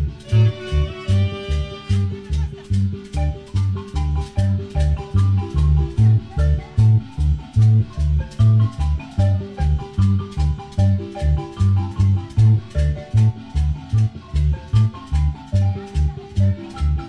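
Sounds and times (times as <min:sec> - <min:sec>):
heavy bass beat: 0:00.0 - 0:17.0
latin dance music: 0:00.0 - 0:17.0
marimba-like mallet melody: 0:00.0 - 0:17.0.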